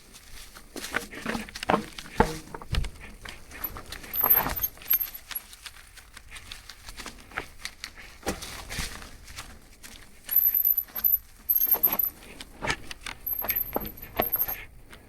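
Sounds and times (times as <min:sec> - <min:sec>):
mountain bike rattling and clunking: 0:00.0 - 0:05.8, 0:07.0 - 0:15.0.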